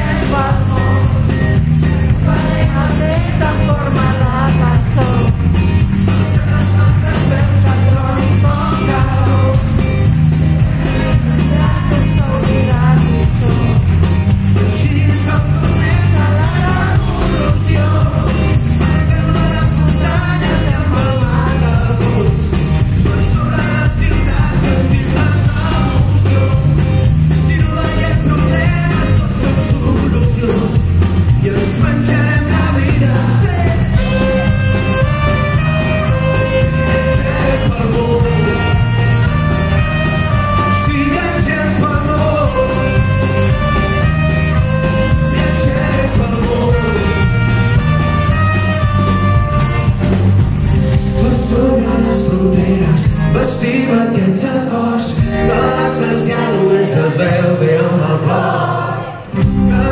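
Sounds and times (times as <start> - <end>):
live pop-rock band playing: 0.0 - 59.9.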